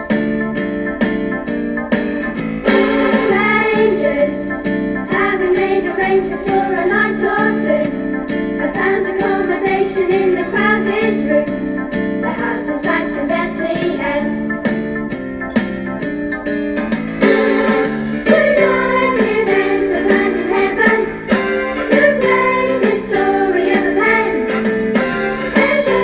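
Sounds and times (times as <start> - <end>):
instrumental backing with steady beat: 0.0 - 26.0.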